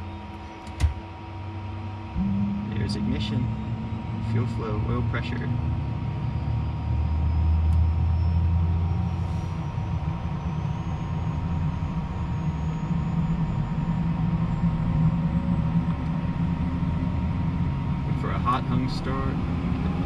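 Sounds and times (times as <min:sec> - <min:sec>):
jet engine whine rising: 0:00.0 - 0:20.0
low steady rumble: 0:00.0 - 0:20.0.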